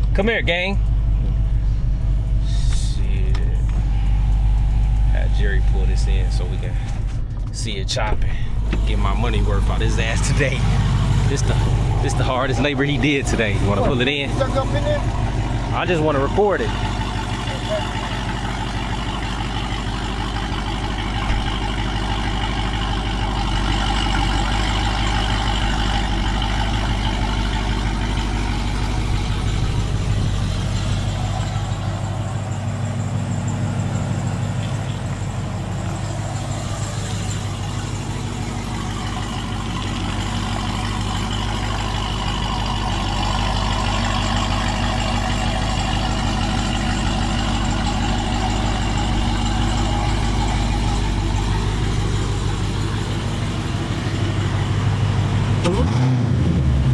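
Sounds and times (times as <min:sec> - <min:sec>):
car engine idling with choppy lope: 0:00.0 - 0:56.9.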